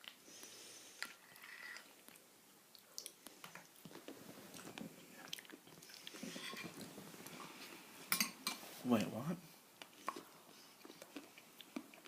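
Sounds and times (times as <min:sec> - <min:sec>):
faint chewing: 0:00.0 - 0:07.9, 0:09.8 - 0:12.0.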